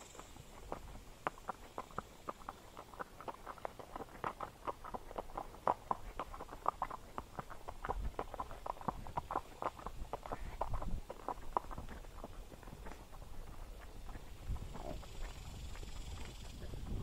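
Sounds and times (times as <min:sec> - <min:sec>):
horse hooves clopping: 0:00.0 - 0:17.0.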